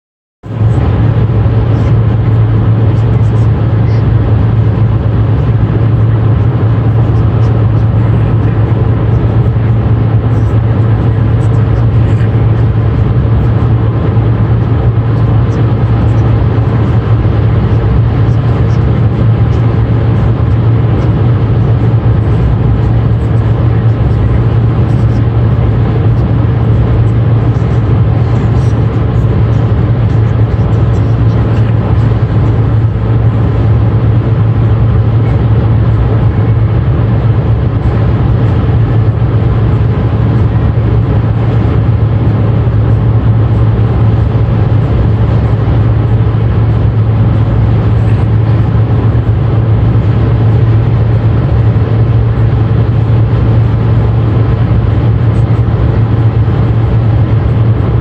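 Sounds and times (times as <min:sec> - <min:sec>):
car engine and tyre drone: 0:00.4 - 0:58.0.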